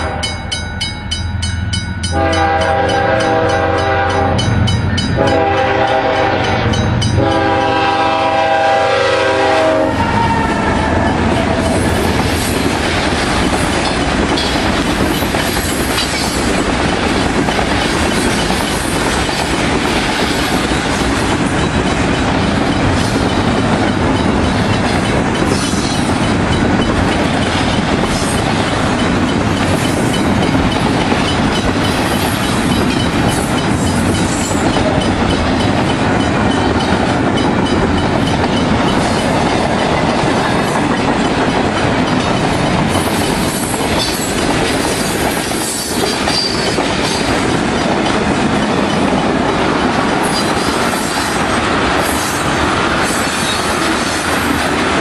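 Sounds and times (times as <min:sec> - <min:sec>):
steel wheels on rails: 0:00.0 - 0:55.0
wheels clicking over rail joints: 0:10.1 - 0:55.0.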